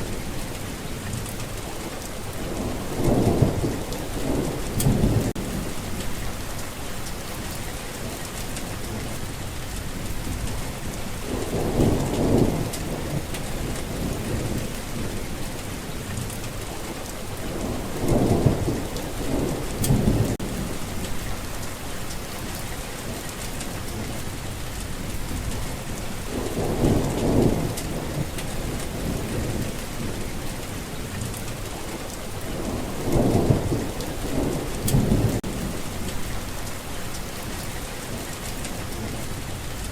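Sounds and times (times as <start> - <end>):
thunder rumbling: 0.0 - 39.8
steady rain: 0.0 - 39.9.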